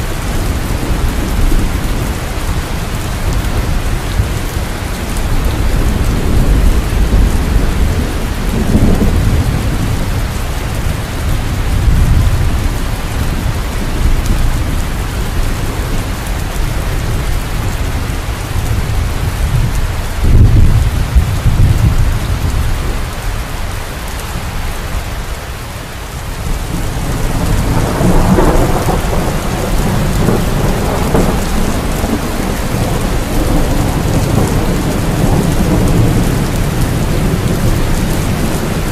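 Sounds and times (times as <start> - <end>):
rolling thunder: 0.0 - 23.3, 26.4 - 38.9
heavy rain: 0.0 - 38.9.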